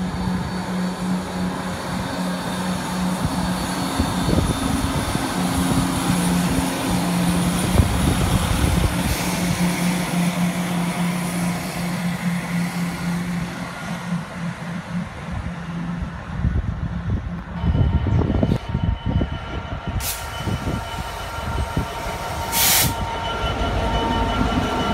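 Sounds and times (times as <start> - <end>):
train humming: 0.0 - 24.9.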